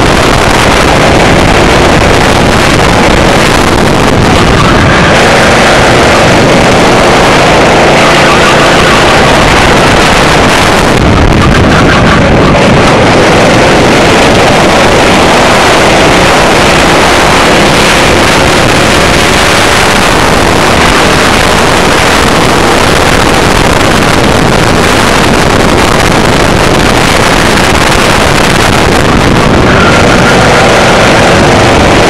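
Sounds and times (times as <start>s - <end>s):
kart engine running hard: 0.0s - 32.0s
wind noise on microphone: 0.0s - 32.0s.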